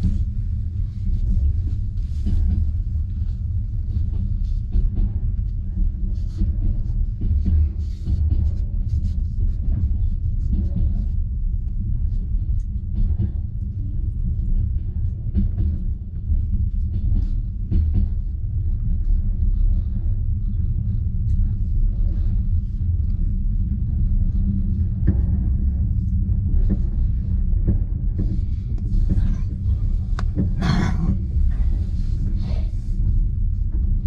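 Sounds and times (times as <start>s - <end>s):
train low rumble: 0.0s - 34.0s.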